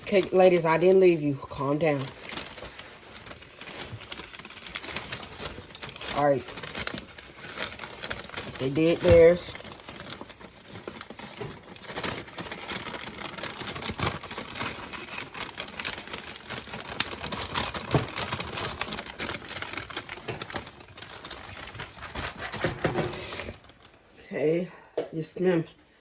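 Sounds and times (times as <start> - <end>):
paper bag rustling: 0.0 - 24.1.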